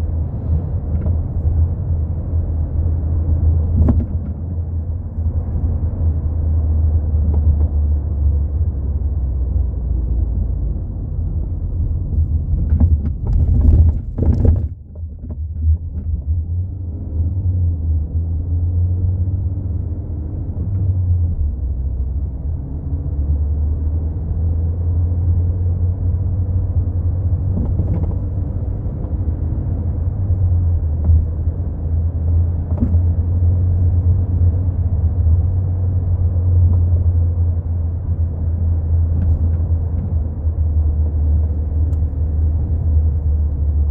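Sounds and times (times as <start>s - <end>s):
road rumble inside a car: 0.0s - 43.9s.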